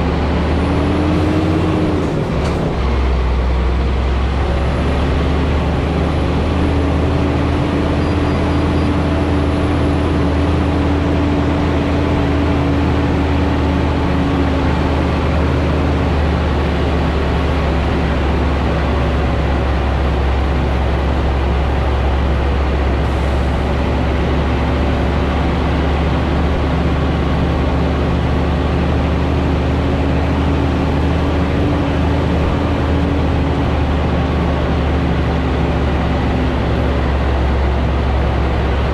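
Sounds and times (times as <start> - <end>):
truck diesel engine drone: 0.0 - 38.9.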